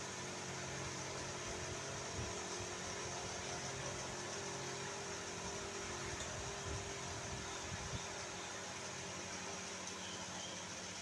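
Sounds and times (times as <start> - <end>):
electric fan whooshing: 0.0 - 11.0
faint steady hum: 0.0 - 11.0.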